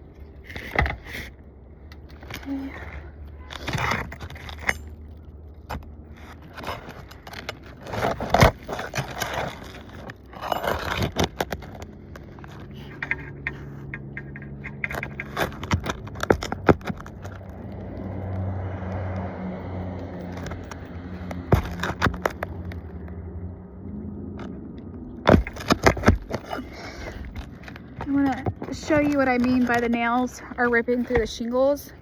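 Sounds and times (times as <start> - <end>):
low engine hum: 1.3 - 32.0
roof shingles scraping and clicking: 2.1 - 23.2, 24.4 - 31.8.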